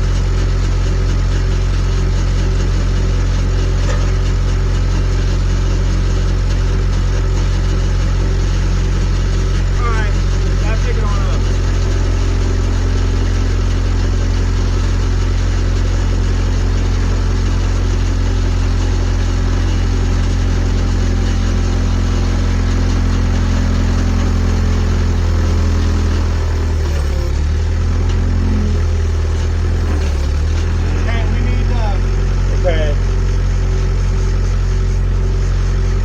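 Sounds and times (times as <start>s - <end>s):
skid steer engine idling: 0.0s - 36.0s.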